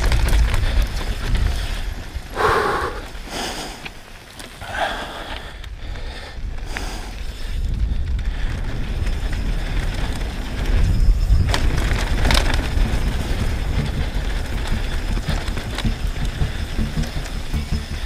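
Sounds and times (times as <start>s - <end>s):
wind buffeting microphone: 0.0s - 3.3s, 4.6s - 18.0s
tyres rolling over dirt and gravel: 0.0s - 5.8s, 6.4s - 18.0s
bike rattling: 0.0s - 18.0s.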